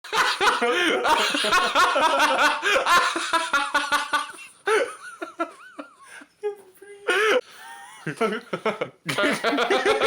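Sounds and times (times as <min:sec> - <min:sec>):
person laughing hard: 0:00.1 - 0:06.0, 0:07.1 - 0:10.0.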